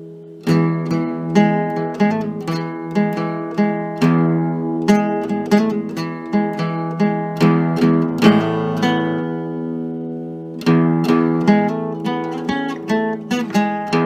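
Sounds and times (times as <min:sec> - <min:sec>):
acoustic strings strummed: 0:00.0 - 0:14.0.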